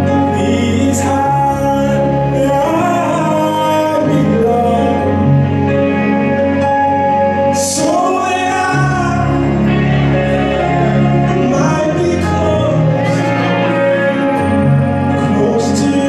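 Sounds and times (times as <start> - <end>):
gospel singing with chords: 0.0 - 16.0.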